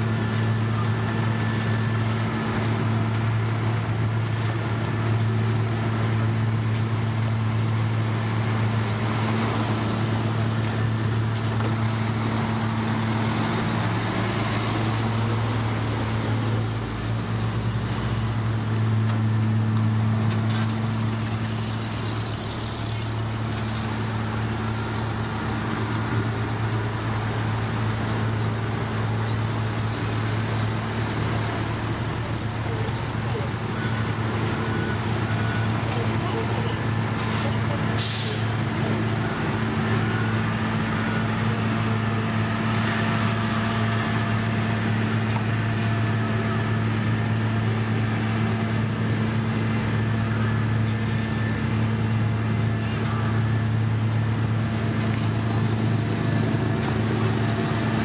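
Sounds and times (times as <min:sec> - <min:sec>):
diesel engine hum: 0:00.0 - 0:58.0.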